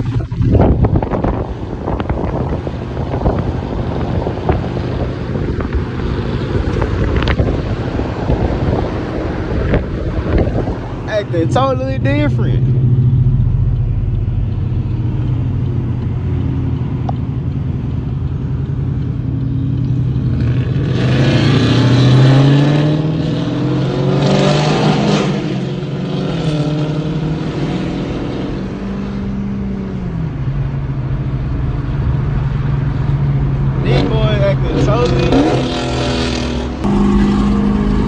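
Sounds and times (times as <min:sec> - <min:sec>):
car accelerating hard: 0:00.0 - 0:19.2, 0:19.8 - 0:38.0
car engine drone: 0:00.0 - 0:38.0.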